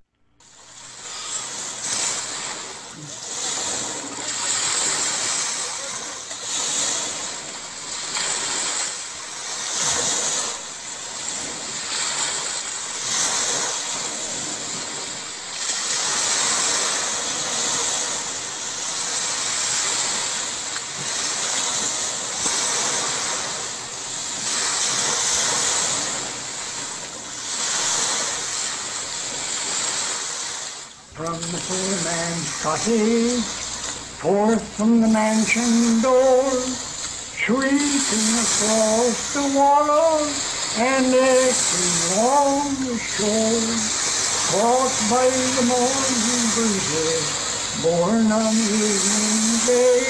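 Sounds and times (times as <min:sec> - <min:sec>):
waves washing onto shore: 0:00.0 - 0:50.0.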